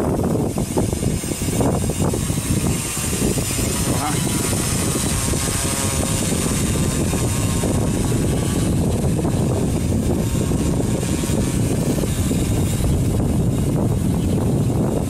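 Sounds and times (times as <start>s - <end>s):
drone propellers: 0.0s - 15.0s
wind rumble on microphone: 0.0s - 15.0s.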